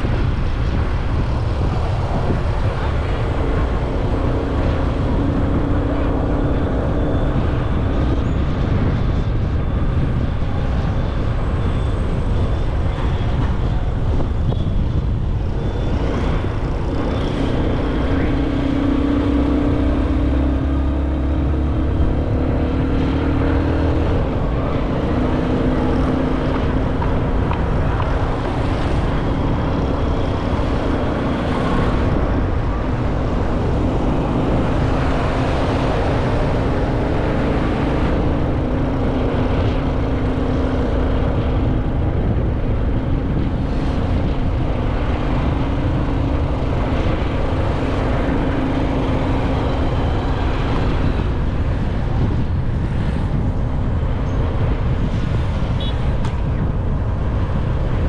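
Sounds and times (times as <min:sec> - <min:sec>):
wind rumbling over microphone: 0:00.0 - 0:58.0.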